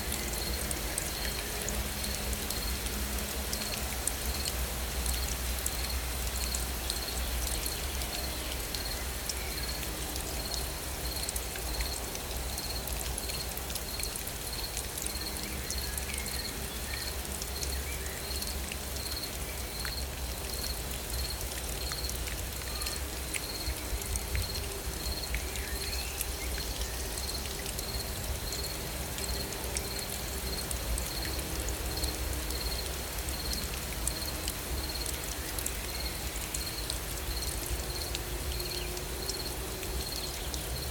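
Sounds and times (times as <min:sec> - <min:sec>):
raindrops ticking: 0:00.0 - 0:40.9
steady rain: 0:00.0 - 0:40.9.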